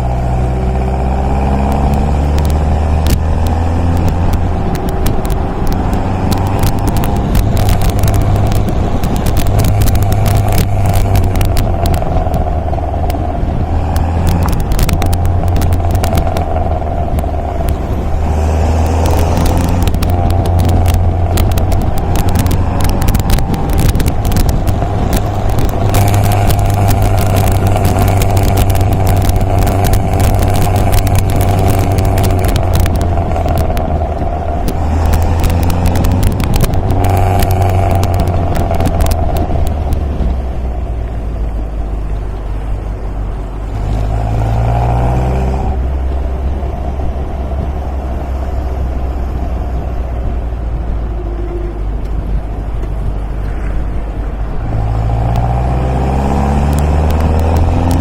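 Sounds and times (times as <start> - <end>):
sports car engine running: 0.0 - 58.0
wind buffeting microphone: 0.0 - 58.0.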